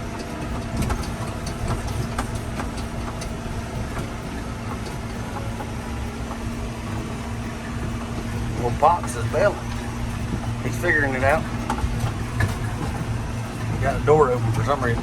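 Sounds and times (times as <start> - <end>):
short clicks and rattles: 0.0 - 15.0
tractor engine running: 0.0 - 15.0.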